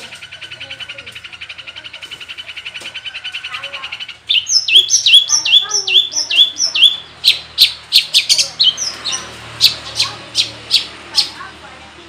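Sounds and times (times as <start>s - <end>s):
bird singing repeated notes: 0.0s - 11.5s.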